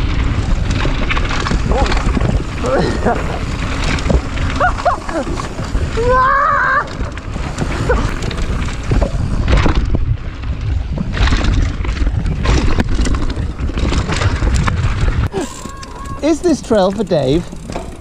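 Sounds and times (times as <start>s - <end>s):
wind buffeting microphone: 0.0s - 16.4s
bike knocking and rattling: 0.0s - 18.0s
bike tyres rumbling on dirt: 0.0s - 18.0s.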